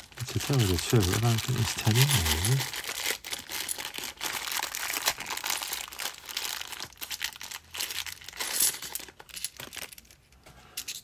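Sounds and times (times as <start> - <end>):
plastic coin bag crinkling: 0.0 - 10.2.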